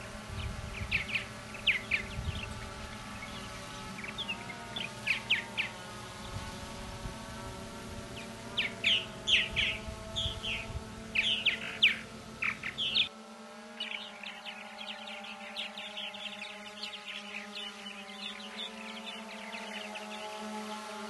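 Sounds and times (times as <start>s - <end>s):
purple martins chirping: 0.0s - 13.1s, 13.8s - 21.0s
steady hum: 0.0s - 21.0s.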